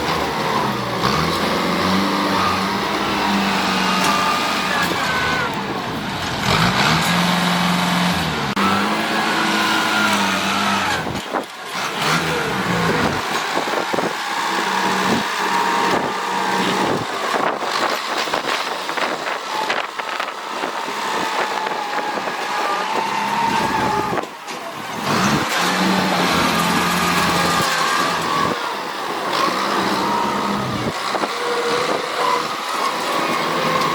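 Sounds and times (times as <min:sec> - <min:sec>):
heavy machinery engine revving: 0:00.0 - 0:33.9.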